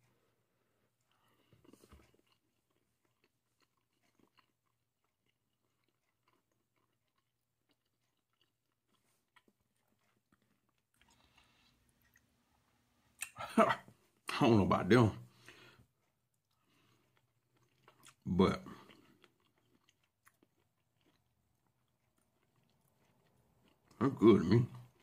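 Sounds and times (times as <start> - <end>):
faint chewing: 0.0 - 14.4, 15.2 - 25.0.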